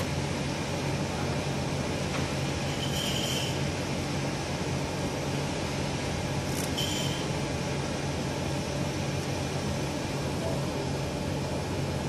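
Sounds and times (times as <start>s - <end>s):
machine hum with fan hiss: 0.0s - 12.0s.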